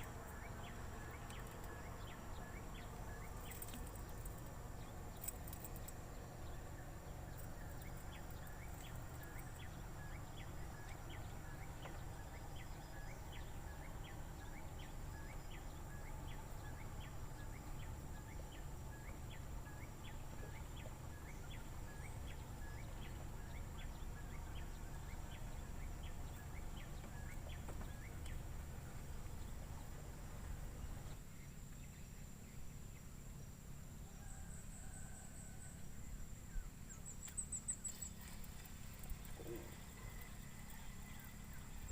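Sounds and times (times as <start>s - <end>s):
low steady rumble: 0.0s - 41.9s.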